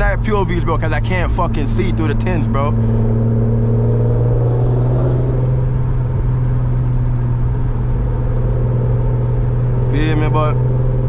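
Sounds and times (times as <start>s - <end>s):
loud exhaust droning: 0.0s - 11.0s.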